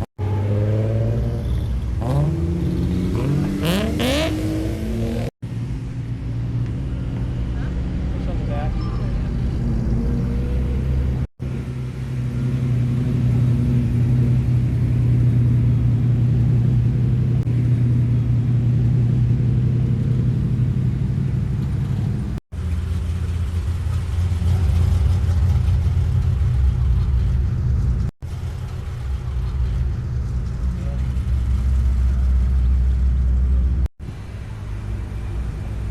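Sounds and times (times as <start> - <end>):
car engine droning: 0.0 - 35.9.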